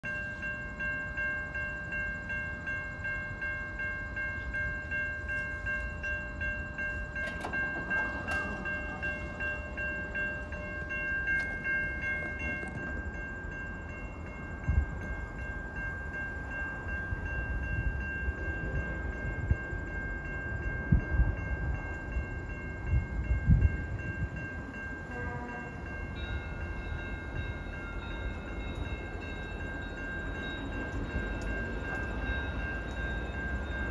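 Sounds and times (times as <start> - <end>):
level crossing warning bells: 0.0 - 33.9.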